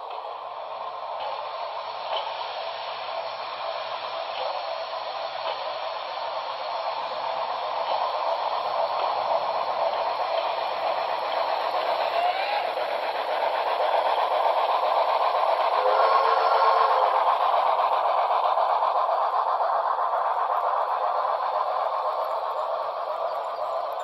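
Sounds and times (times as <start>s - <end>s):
steady steam hiss: 0.0s - 24.0s.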